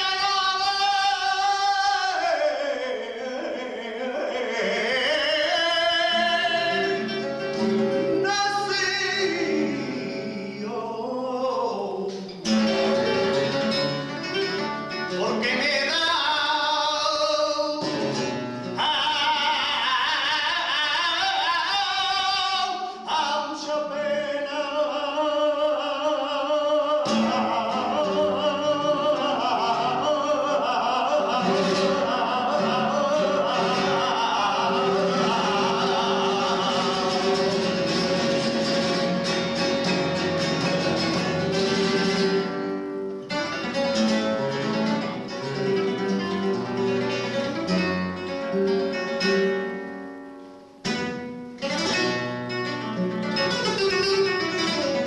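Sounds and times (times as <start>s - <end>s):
man singing flamenco: 0.0s - 50.2s, 50.8s - 55.0s
flamenco guitar: 0.0s - 55.0s.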